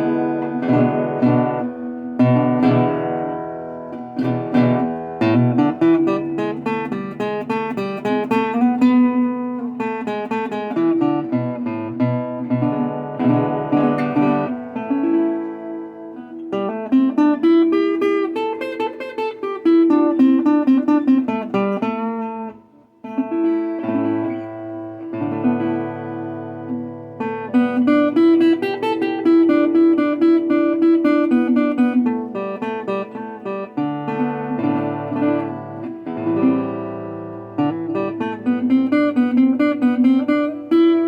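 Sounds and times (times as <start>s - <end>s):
resonator guitar picked notes: 0.0s - 41.0s.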